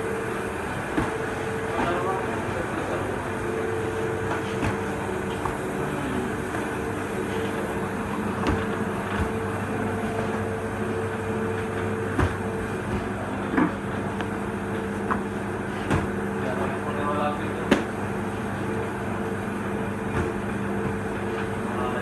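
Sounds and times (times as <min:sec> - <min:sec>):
kitchen machinery motor hum: 0:00.0 - 0:22.0.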